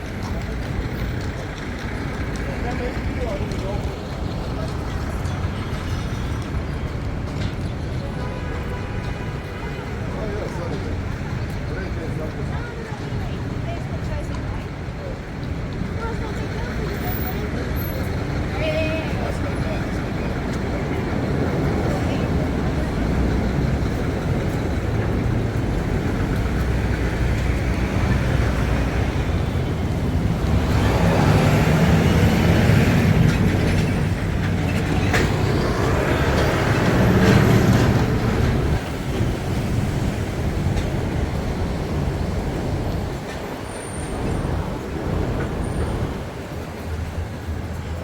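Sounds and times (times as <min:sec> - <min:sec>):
heavy vehicle engines rumbling: 0:00.0 - 0:48.0.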